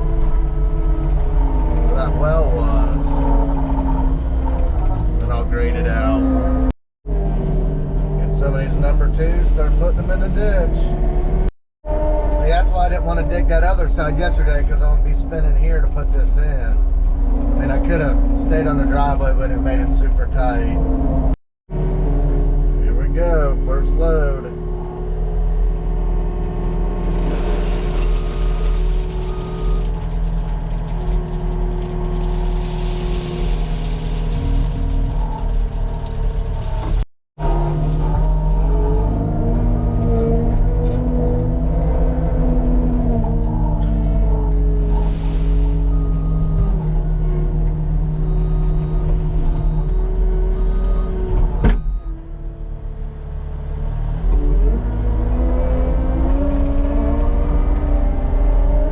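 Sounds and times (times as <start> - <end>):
diesel engine working: 0.0 - 58.9.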